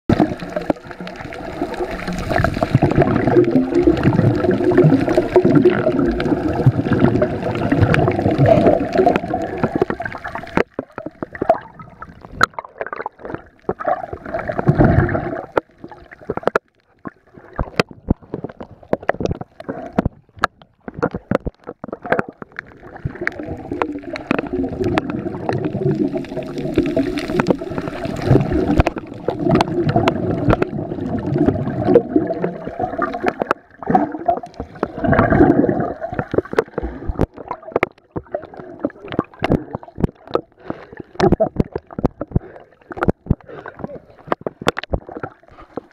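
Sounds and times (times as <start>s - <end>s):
sharp clicks and crackles: 0.1s - 45.9s
water gurgling underwater: 0.1s - 45.9s.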